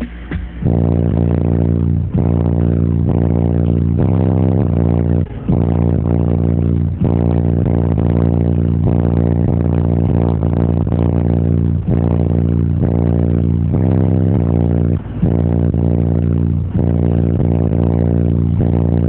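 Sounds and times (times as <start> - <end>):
bass-heavy music through subwoofer: 0.0 - 19.0.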